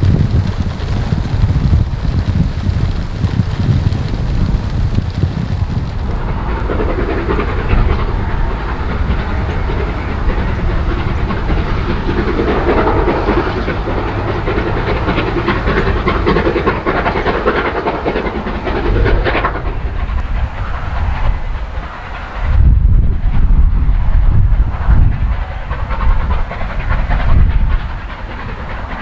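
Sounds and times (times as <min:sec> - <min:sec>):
steam train passing: 0:00.0 - 0:29.0
wheels clicking over rail joints: 0:00.0 - 0:29.0
wind rumble on microphone: 0:00.0 - 0:29.0.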